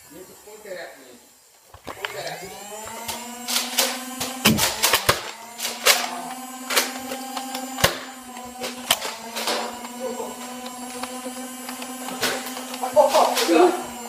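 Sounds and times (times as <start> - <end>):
toy blasters clacking and firing: 1.8 - 13.8.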